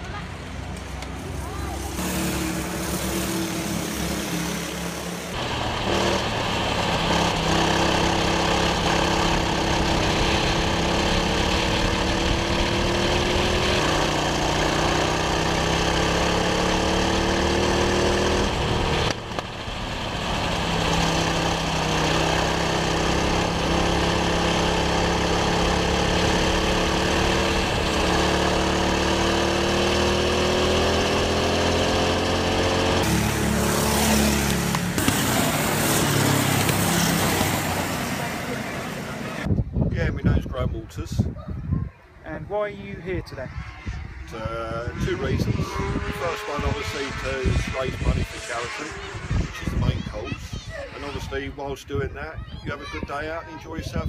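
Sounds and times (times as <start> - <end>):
go-kart engine accelerating: 0.1 - 39.5, 43.4 - 51.7.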